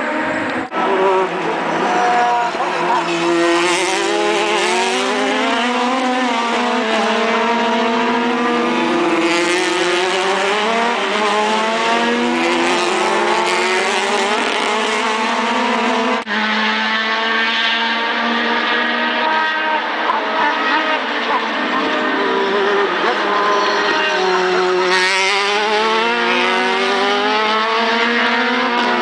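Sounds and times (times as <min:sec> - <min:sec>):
race car engines passing: 0:00.0 - 0:29.0.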